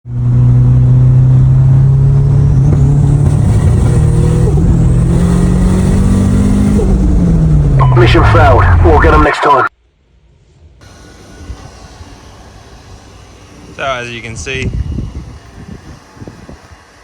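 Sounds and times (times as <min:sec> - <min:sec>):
car engine running under load: 0:00.0 - 0:09.2, 0:10.4 - 0:17.0.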